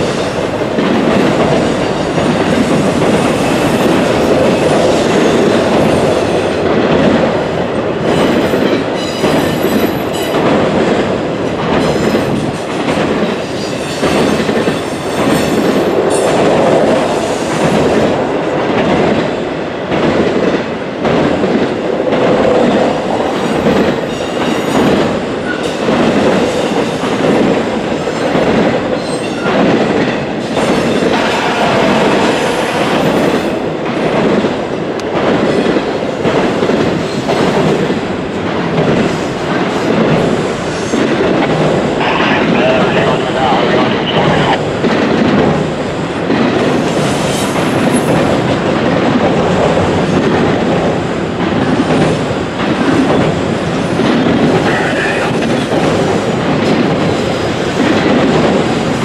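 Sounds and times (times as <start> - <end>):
freight train rumbling over bridge: 0.0 - 59.0.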